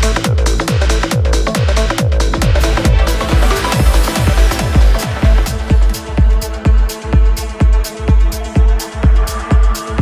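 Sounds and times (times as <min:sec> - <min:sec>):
electro house music: 0:00.0 - 0:10.0.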